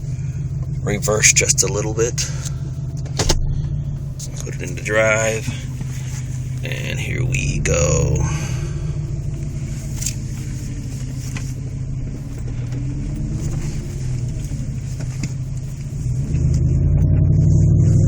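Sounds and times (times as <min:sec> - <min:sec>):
deep exhaust drone inside car: 0:00.0 - 0:18.0.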